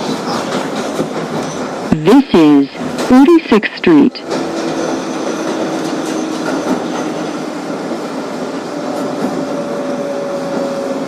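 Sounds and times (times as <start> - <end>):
low hum in subway car: 0.0 - 11.0.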